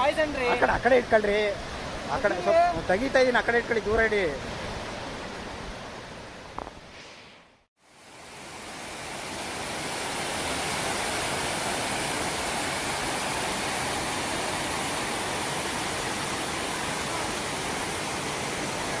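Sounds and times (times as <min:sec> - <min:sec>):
waterfall rushing: 0:00.0 - 0:05.5, 0:07.9 - 0:19.0.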